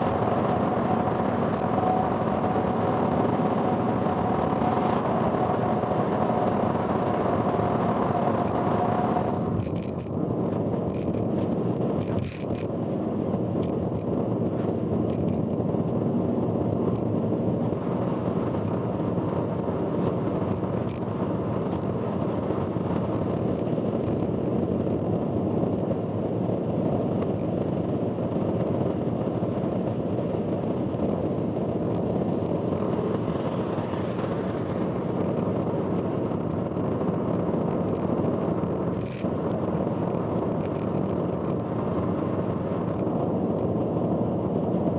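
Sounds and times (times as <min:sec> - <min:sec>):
road and engine noise: 0:00.0 - 0:44.9.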